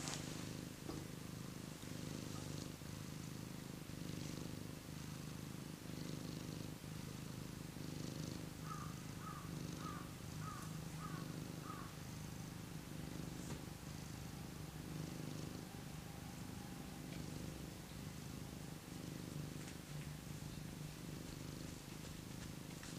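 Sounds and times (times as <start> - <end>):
cat purring: 0.0 - 22.9.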